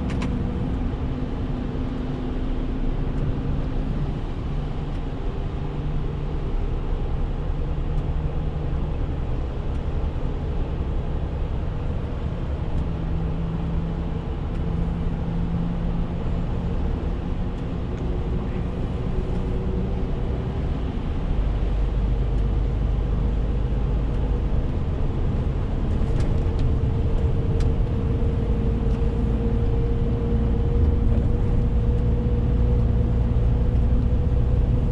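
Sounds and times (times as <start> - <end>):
road noise: 0.0 - 34.9.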